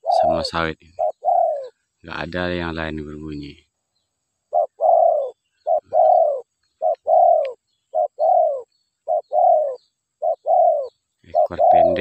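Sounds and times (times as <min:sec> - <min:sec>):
dove cooing: 0:00.0 - 0:02.7, 0:04.5 - 0:12.0.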